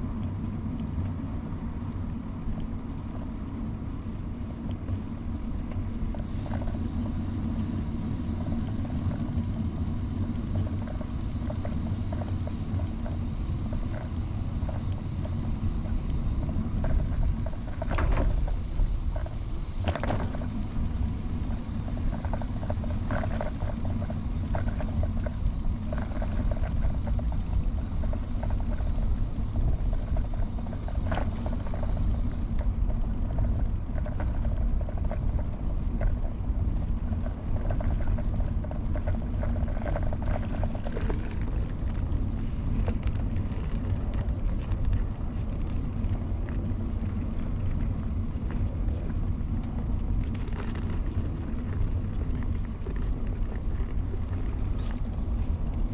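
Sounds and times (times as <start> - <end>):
bicycle clicks and rattles: 0.0 - 55.9
bicycle tyre noise: 0.0 - 55.9.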